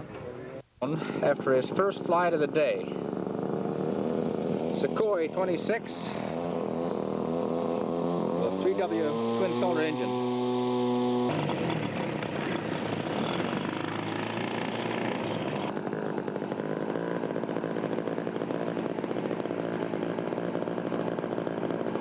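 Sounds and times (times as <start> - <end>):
model plane engine buzzing: 1.0 - 22.0.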